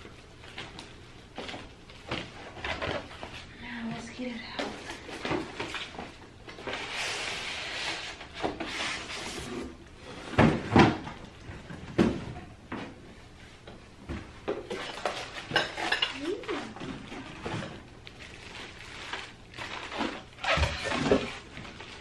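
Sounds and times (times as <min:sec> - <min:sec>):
cardboard and styrofoam rustling: 0:00.1 - 0:12.2, 0:16.1 - 0:22.0.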